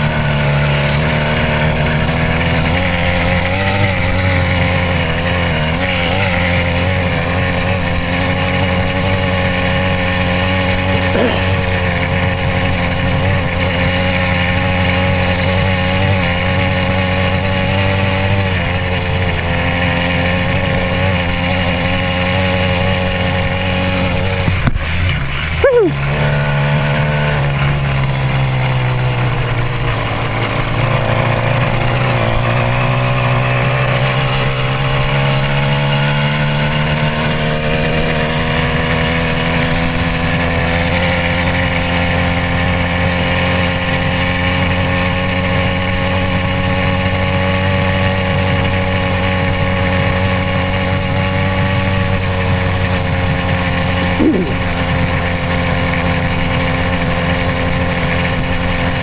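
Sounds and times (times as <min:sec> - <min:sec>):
two-stroke engine running: 0:00.0 - 0:59.0.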